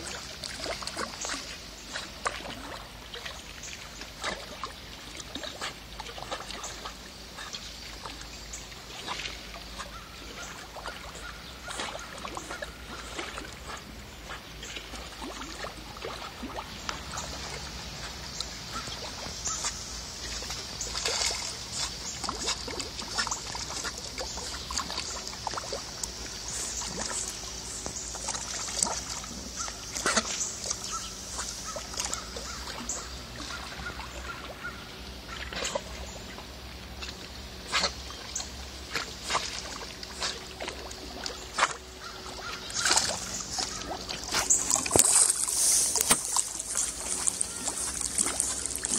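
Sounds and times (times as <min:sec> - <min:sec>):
dog paddling through water: 0:00.0 - 0:48.9
small splashes: 0:00.0 - 0:48.9.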